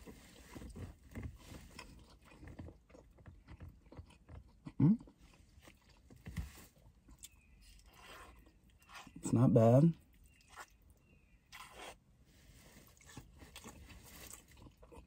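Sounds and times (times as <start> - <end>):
person chewing: 0.0 - 9.2, 10.1 - 12.1, 12.7 - 15.0.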